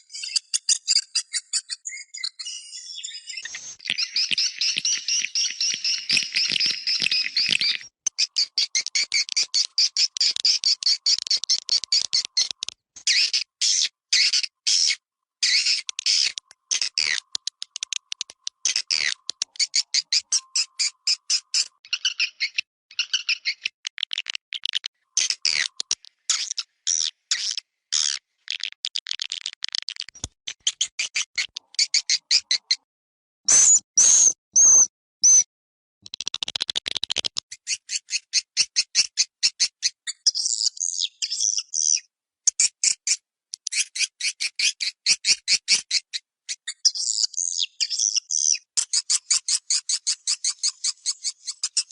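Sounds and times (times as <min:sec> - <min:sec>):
shrill bird chirps: 0:00.0 - 0:23.8, 0:30.6 - 0:32.9, 0:33.5 - 0:35.5, 0:37.5 - 0:51.9.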